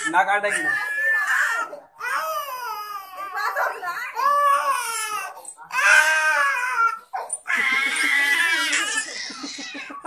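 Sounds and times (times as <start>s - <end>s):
toddler crying: 0.0s - 10.0s.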